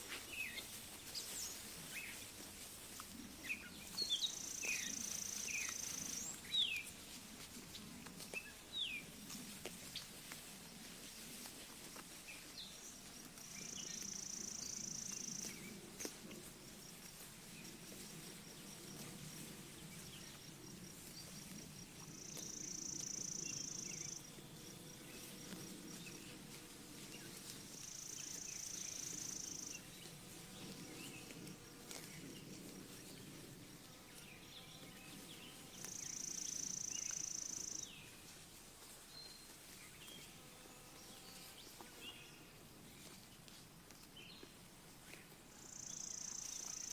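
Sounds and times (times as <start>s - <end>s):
grass rustling: 0.0s - 46.9s.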